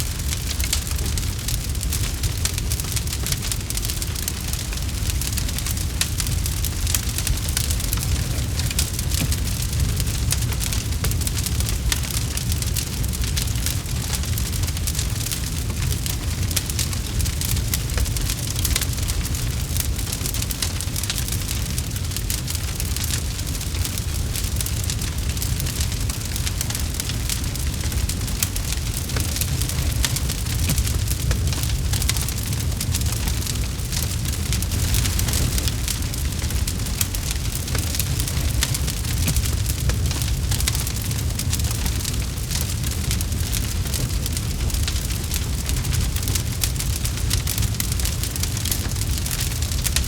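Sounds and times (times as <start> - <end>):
campfire crackling: 0.0 - 50.0
low fire rumble: 0.0 - 50.0.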